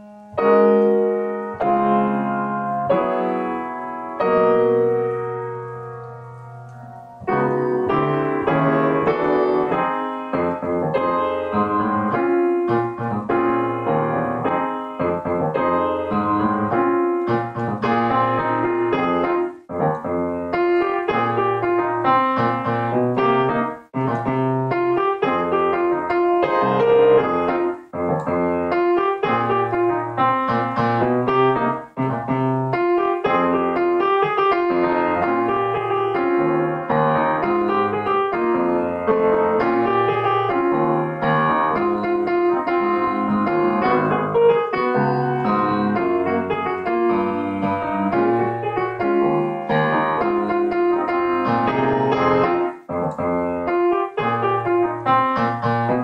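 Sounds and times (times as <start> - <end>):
solo grand piano: 0.0 - 56.0.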